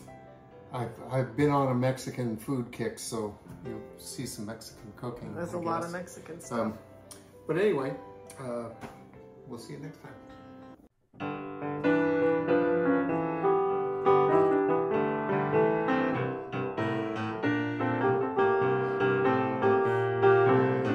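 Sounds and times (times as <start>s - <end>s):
solo piano music: 3.4s - 20.9s.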